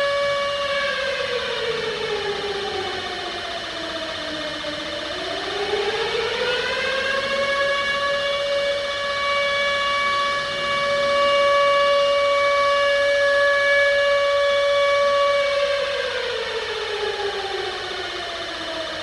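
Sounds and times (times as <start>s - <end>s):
civil defense siren: 0.0s - 19.0s.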